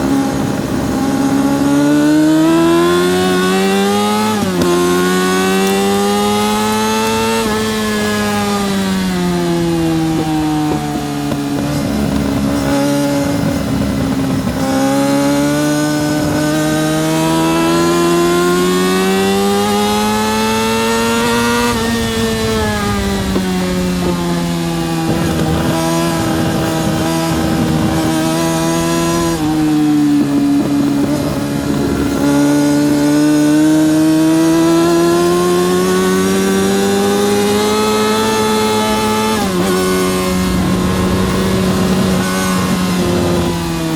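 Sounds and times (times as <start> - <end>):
motorcycle engine at racing revs: 0.0 - 43.9.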